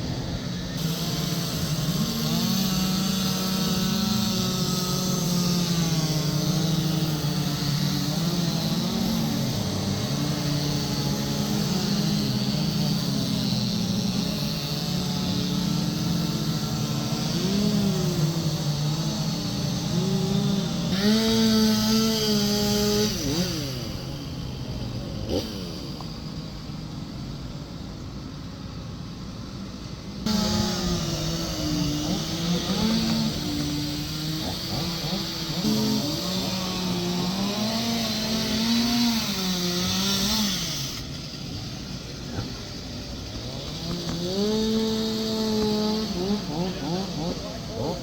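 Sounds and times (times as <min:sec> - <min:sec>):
chainsaws running: 0:00.0 - 0:48.0.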